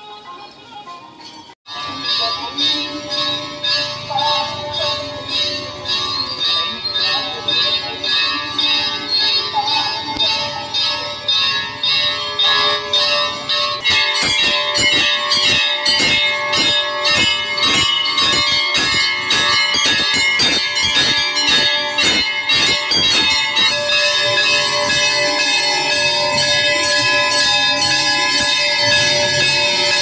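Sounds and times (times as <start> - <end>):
temple bells ringing rapidly: 1.2 - 30.0.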